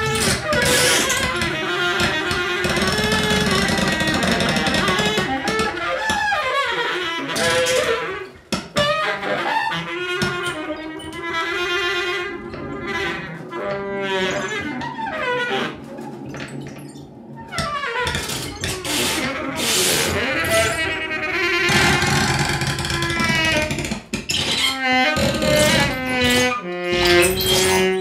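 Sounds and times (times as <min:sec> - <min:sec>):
baritone saxophone gliding tones: 0:00.0 - 0:23.7, 0:24.7 - 0:28.0.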